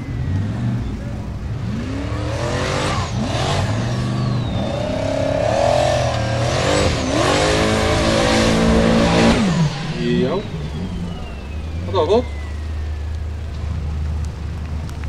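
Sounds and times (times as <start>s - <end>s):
buggy engine revving hard: 0.0s - 14.0s.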